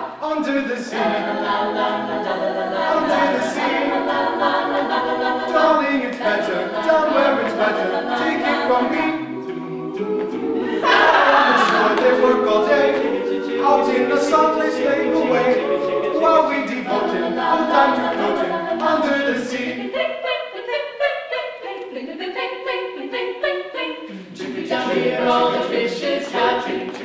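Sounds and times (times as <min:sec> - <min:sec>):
a cappella group singing: 0:00.0 - 0:27.0.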